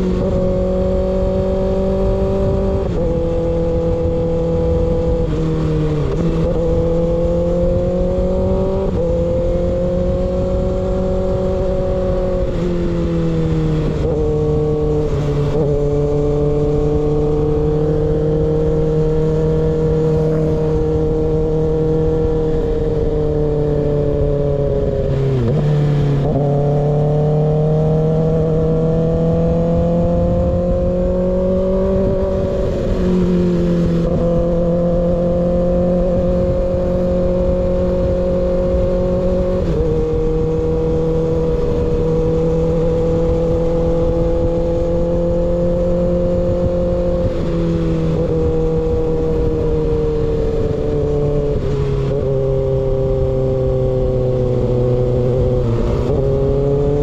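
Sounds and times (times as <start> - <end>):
motorcycle engine at part throttle: 0.0 - 57.0.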